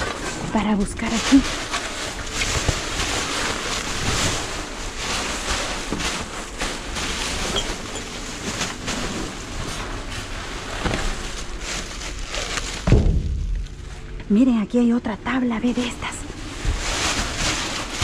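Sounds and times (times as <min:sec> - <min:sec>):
plastic bags rustling: 0:00.0 - 0:18.0.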